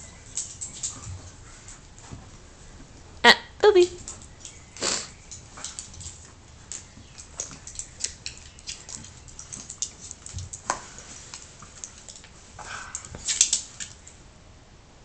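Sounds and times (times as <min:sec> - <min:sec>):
dogs scuffling on wooden floor: 0:00.0 - 0:03.0, 0:04.0 - 0:14.2.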